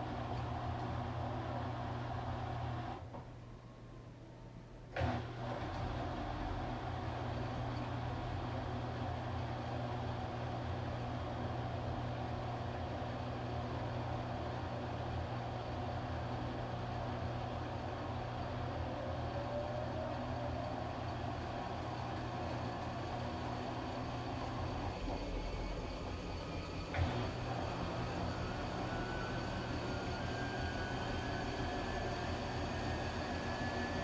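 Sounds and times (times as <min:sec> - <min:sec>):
washing machine running: 0:05.0 - 0:34.0.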